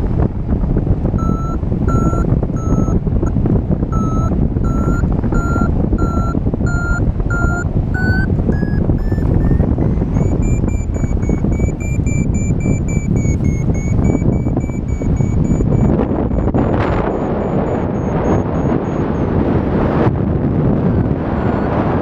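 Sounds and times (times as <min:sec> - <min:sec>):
wind on microphone: 0:00.0 - 0:22.0
variometer beeping: 0:01.1 - 0:22.0.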